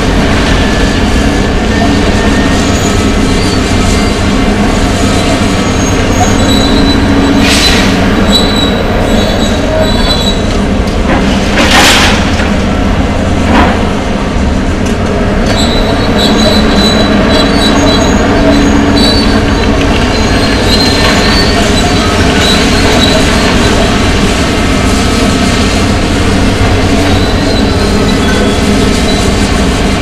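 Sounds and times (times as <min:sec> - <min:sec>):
steel squealing and screeching: 0:00.0 - 0:10.7, 0:15.4 - 0:30.0
excavators running under load: 0:00.0 - 0:30.0.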